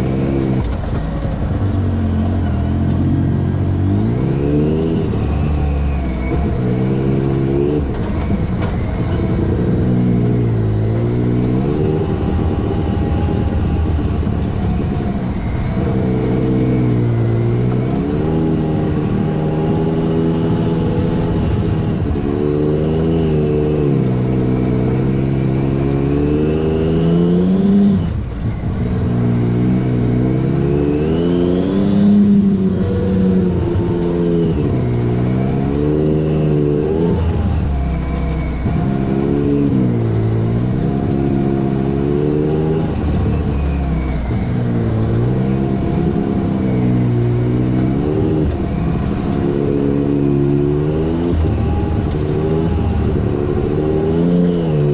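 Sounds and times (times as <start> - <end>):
utv engine revving: 0.0 - 54.9.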